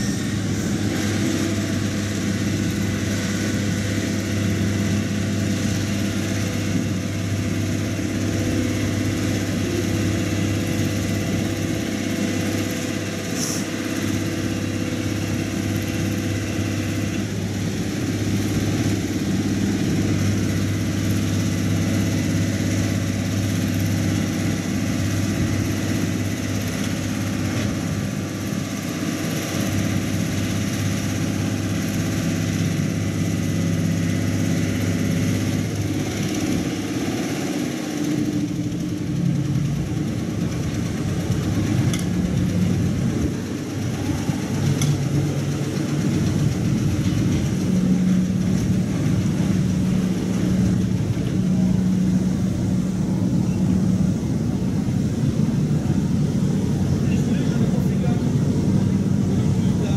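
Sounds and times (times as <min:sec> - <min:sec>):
boat diesel engine running: 0:00.0 - 0:59.9.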